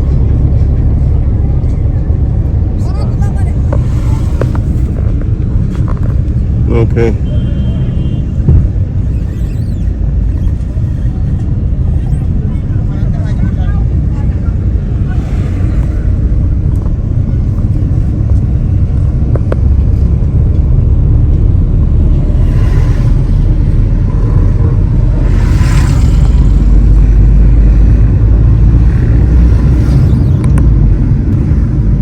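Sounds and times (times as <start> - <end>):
engine and tyre rumble: 0.0 - 32.0.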